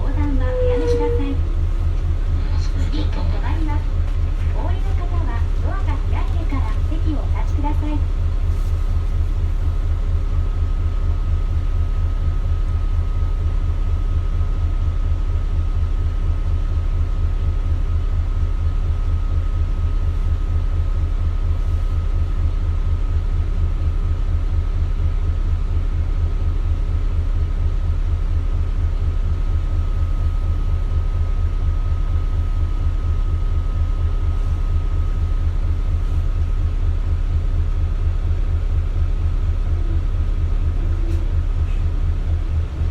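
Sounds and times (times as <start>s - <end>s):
bus diesel engine throbbing: 0.0s - 42.9s.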